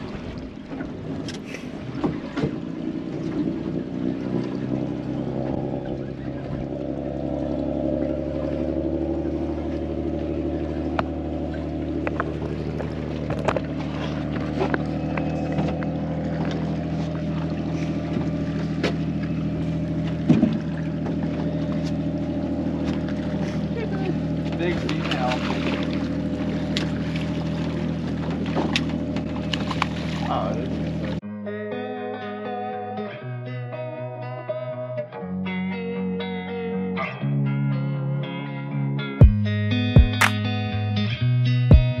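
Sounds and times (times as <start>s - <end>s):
outboard engine humming: 0.0s - 42.0s.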